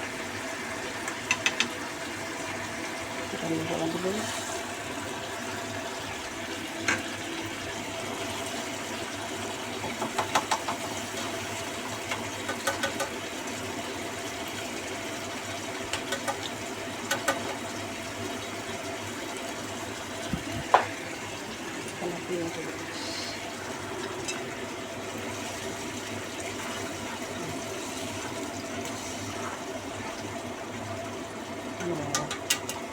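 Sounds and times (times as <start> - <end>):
sauce cooking in a pan: 0.0 - 32.9
steady mechanical hum: 0.0 - 32.9.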